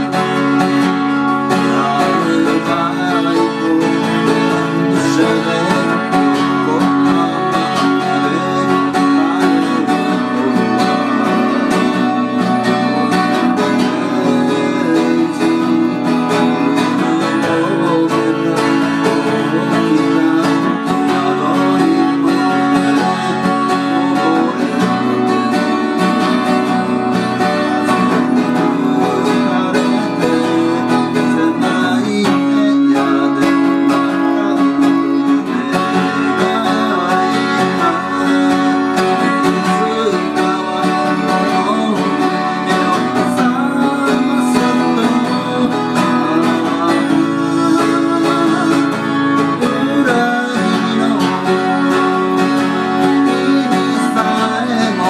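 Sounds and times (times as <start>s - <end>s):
twelve-string guitar strummed chords: 0.0s - 55.0s.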